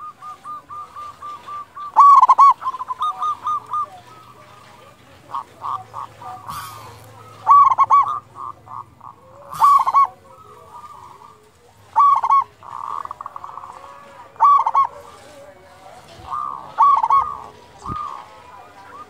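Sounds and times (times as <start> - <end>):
dove ringing coos: 0.0 - 19.0
soft rattling coos: 0.2 - 19.0.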